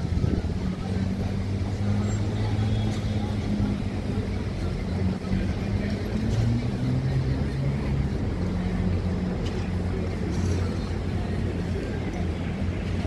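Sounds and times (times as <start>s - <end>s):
low rumble of running engines: 0.0s - 13.0s.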